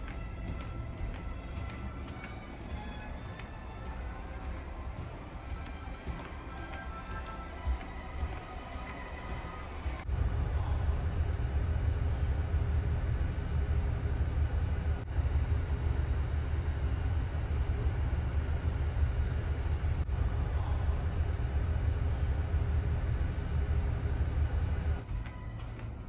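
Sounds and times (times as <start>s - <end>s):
ship engine and hull rumble: 0.0s - 26.0s.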